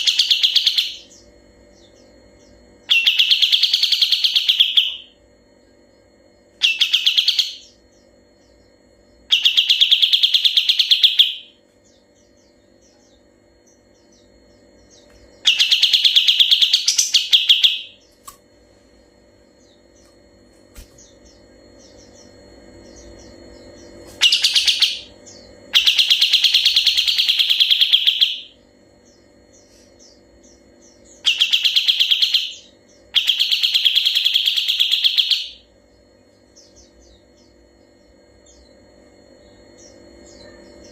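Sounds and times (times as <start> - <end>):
bird singing rattling trill: 0.0 - 40.9
faint steady hum: 0.0 - 40.9.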